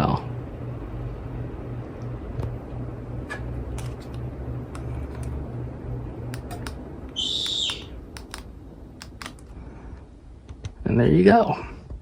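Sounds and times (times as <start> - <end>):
ceiling fan motor hum: 0.0 - 12.0
fan bearing noise: 0.0 - 12.0.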